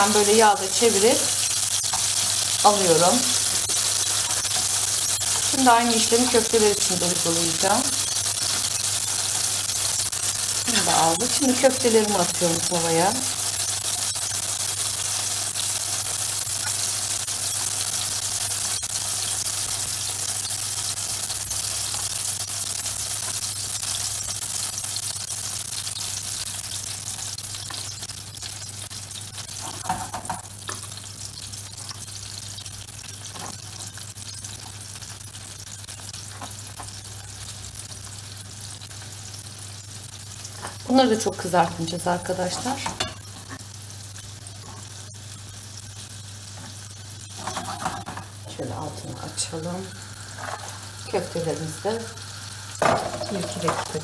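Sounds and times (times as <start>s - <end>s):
meatballs sizzling in hot oil: 0.0s - 54.0s.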